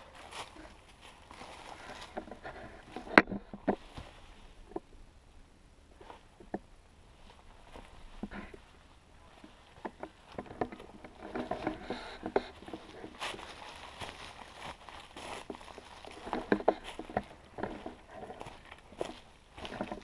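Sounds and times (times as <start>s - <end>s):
dry leaves rustling and crunching: 0.0s - 4.6s, 7.1s - 20.0s.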